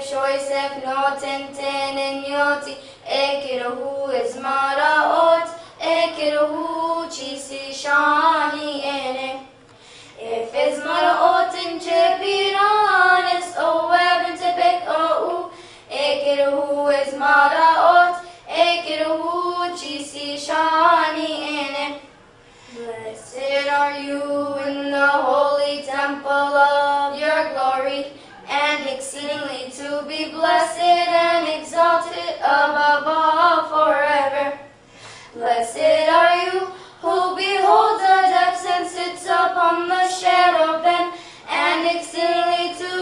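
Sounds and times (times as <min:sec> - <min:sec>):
girls singing a hymn: 0:00.0 - 0:43.0.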